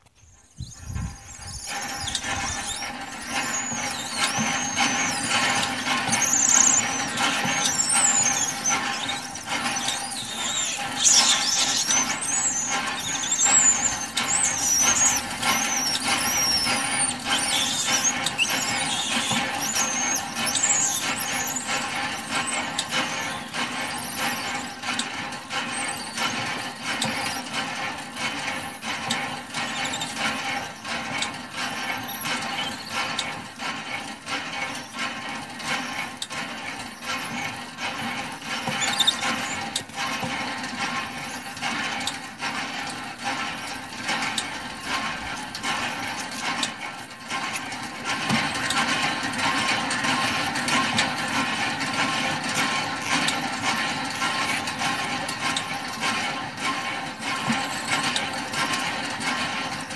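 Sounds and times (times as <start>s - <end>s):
hand pump squealing and clanking: 0.0s - 59.9s.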